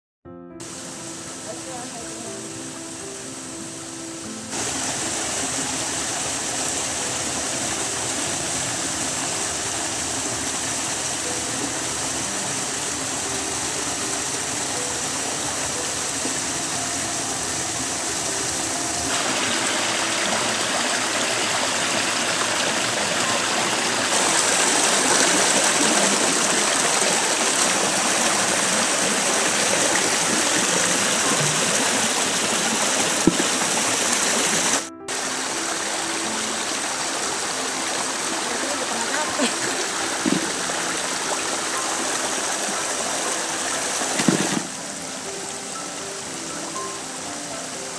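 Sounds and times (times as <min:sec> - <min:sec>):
waterfall splashing over rocks: 0:00.6 - 0:47.9.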